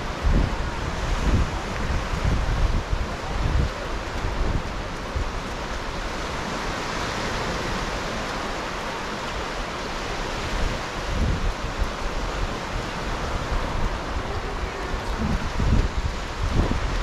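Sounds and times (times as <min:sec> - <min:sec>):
surf waves hissing on beach: 0:00.0 - 0:17.0
wind buffeting microphone: 0:00.0 - 0:17.0.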